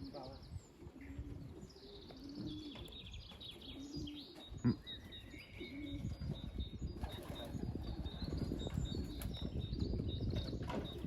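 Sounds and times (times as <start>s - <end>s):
pigeons cooing: 0.0s - 11.0s
songbirds chirping and trilling: 0.0s - 11.0s.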